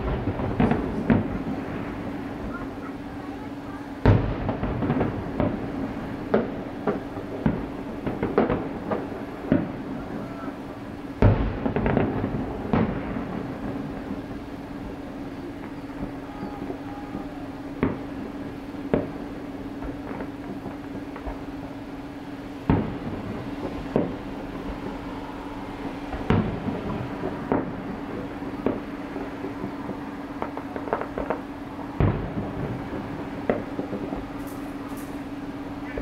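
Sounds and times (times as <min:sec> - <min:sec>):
distant fireworks booming: 0:00.0 - 0:36.0
steady low hum: 0:00.0 - 0:36.0.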